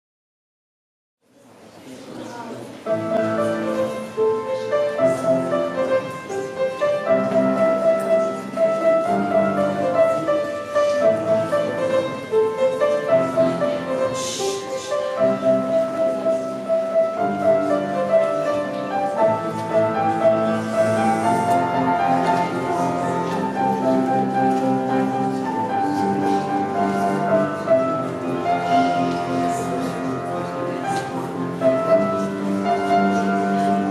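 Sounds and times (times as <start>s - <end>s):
solo piano melody: 2.8s - 33.9s.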